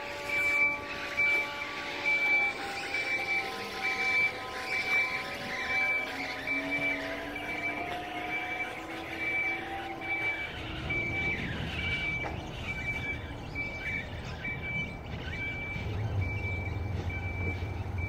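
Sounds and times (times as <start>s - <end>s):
high warning beeps: 0.0s - 18.0s
low rumble of rolling train: 0.0s - 18.0s.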